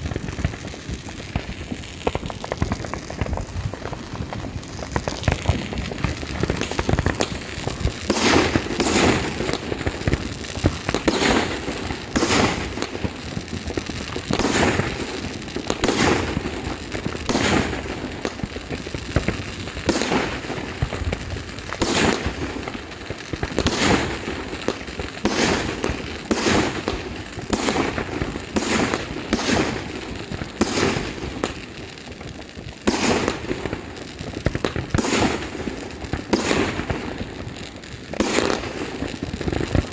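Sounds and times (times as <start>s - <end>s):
fireworks banging: 0.0s - 39.9s
fireworks crackling: 0.0s - 39.9s.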